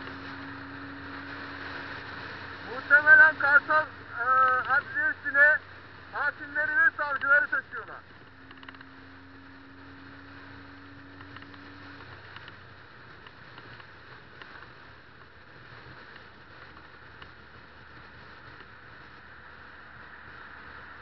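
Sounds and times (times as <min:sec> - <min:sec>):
low steady hum: 0:00.0 - 0:21.0
wind and road noise: 0:00.0 - 0:21.0.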